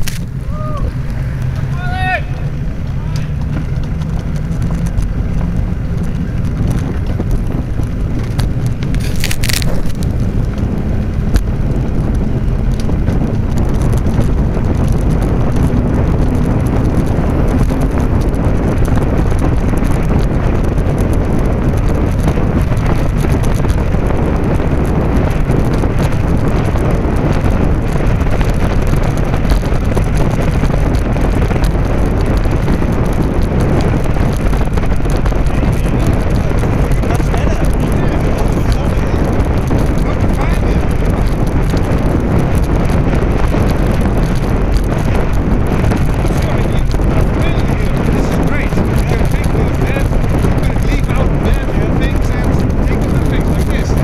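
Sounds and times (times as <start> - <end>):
bicycle rolling noise: 0.0 - 54.0
wind rumbling on microphone: 0.0 - 54.0.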